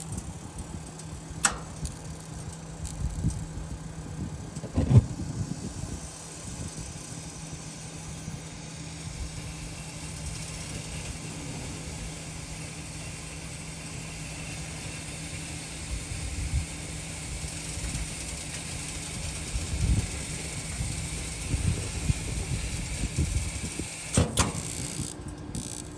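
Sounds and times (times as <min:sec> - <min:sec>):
gas heater humming: 0:00.0 - 0:25.9.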